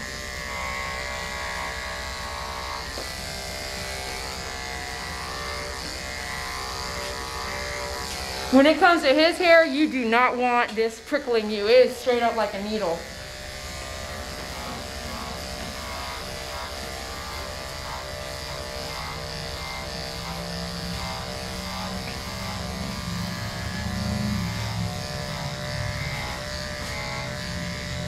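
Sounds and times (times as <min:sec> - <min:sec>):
electric dog clipper buzzing: 0:00.0 - 0:28.0.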